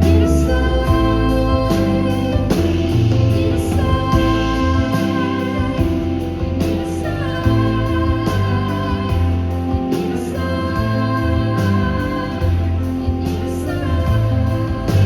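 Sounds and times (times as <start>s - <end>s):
live band playing: 0.0s - 15.0s
person singing: 0.0s - 15.0s.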